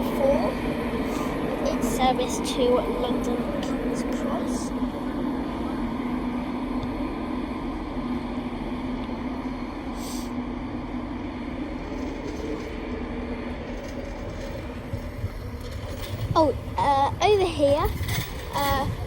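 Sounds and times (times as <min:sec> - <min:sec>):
electric train hum and rumble: 0:00.0 - 0:19.0.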